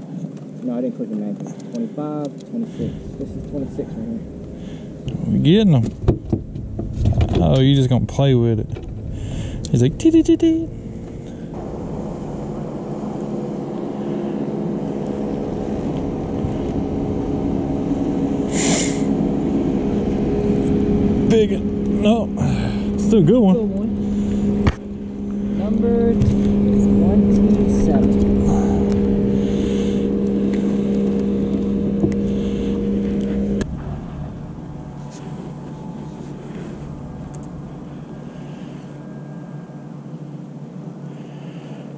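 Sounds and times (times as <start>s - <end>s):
motorboat engine humming: 0.0s - 41.9s.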